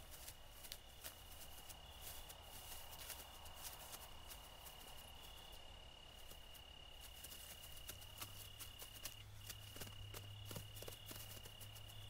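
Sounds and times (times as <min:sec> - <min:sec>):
soft ticks and rustles: 0:00.0 - 0:12.0.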